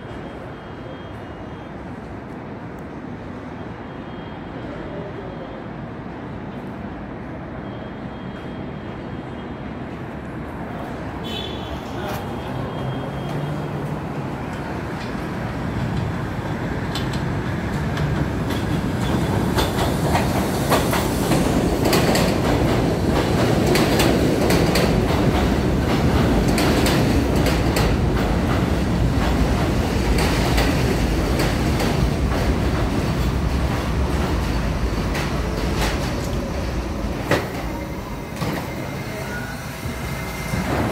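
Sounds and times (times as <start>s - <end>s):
subway train pulling in: 0.0s - 40.9s.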